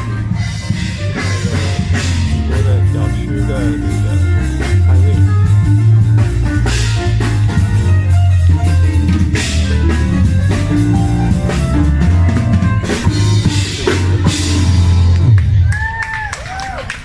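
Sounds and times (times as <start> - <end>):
band playing: 0.0 - 16.6.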